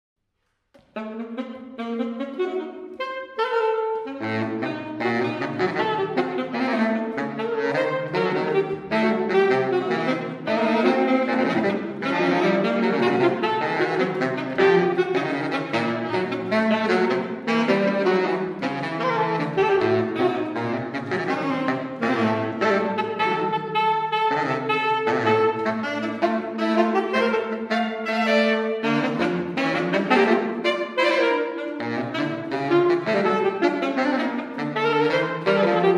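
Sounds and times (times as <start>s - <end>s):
two saxophones playing tango: 0.8s - 35.9s.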